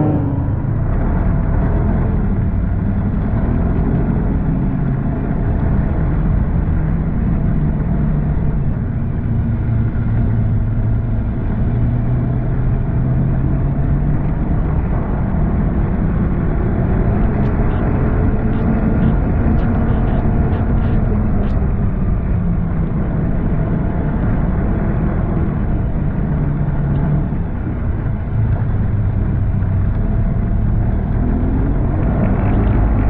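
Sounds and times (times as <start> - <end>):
snowmobile engine and track: 0.0 - 33.0.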